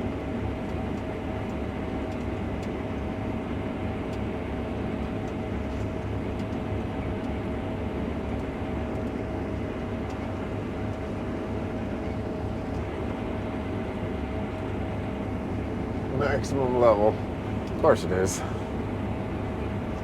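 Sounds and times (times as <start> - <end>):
combine harvester rumble: 0.0 - 20.0
constant machine whine: 0.0 - 20.0.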